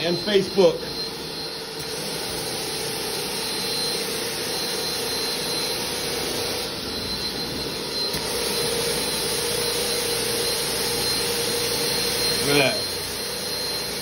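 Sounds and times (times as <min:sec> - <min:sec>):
carpet extractor vacuum whine: 0:00.0 - 0:14.0.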